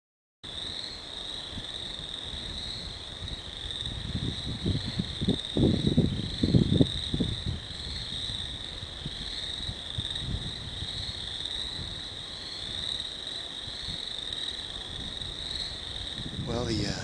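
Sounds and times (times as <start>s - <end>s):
chorus of frogs calling: 0.5s - 17.0s.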